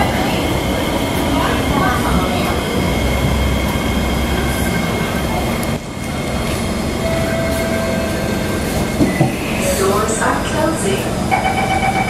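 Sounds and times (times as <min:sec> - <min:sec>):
train equipment hum: 0:00.0 - 0:12.0.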